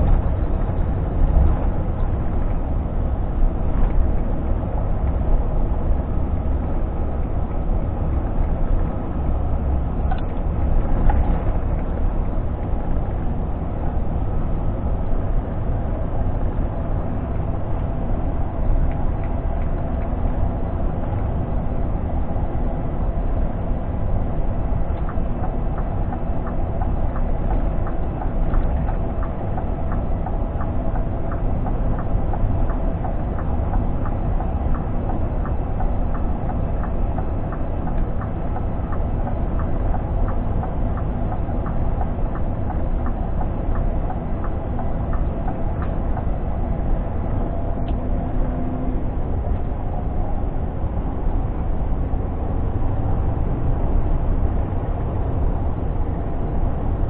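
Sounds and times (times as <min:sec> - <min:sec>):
truck engine and road rumble: 0:00.0 - 0:57.0.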